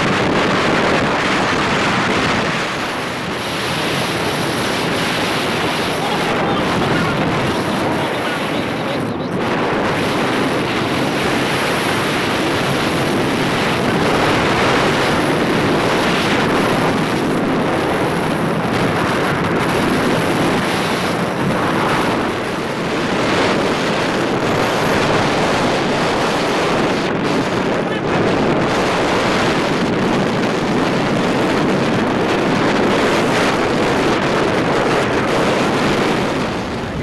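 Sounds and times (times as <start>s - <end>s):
road noise: 0.0s - 37.0s
wind rushing over microphone: 0.0s - 37.0s.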